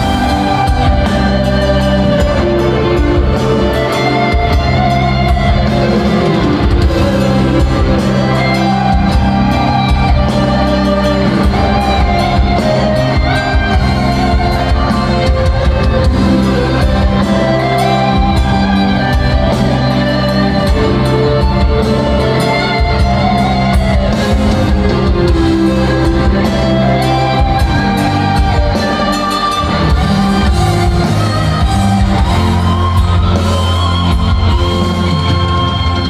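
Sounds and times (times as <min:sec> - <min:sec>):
live metal band playing: 0:00.0 - 0:36.0.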